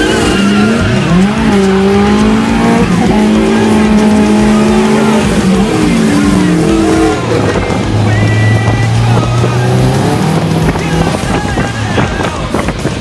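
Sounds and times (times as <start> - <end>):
car engine revving under acceleration: 0.0 - 13.0.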